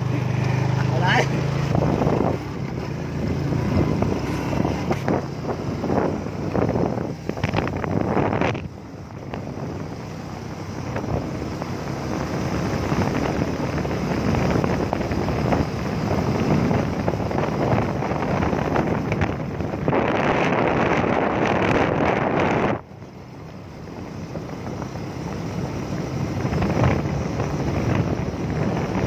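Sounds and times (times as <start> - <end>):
motorbike rumble and tyres: 0.0 - 29.0
wind rushing over microphone: 0.0 - 29.0.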